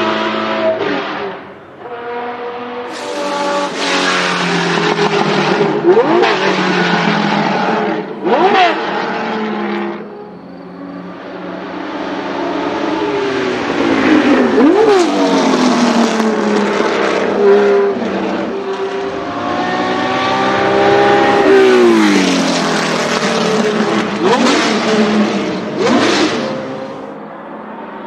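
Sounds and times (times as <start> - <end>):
racing car engine running hard: 2.8 - 10.1, 11.0 - 27.2.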